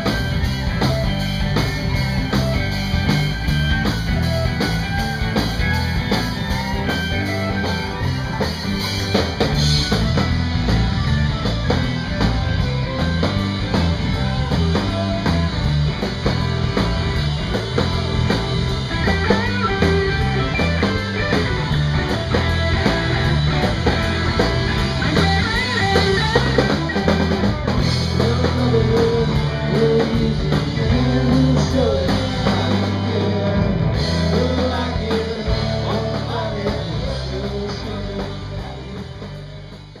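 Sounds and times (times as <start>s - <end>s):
rock band with guitar and drums: 0.0s - 40.0s.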